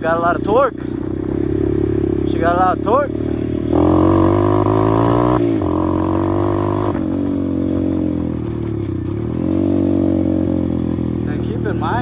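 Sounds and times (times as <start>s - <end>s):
motorbike engine pulling hard: 0.0s - 12.0s.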